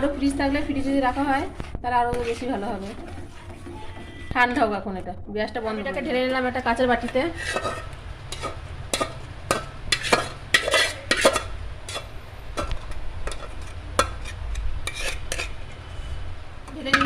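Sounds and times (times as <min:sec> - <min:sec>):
spoon scraping a pot: 0:00.0 - 0:04.8, 0:05.6 - 0:17.0
low steady hum: 0:00.0 - 0:17.0.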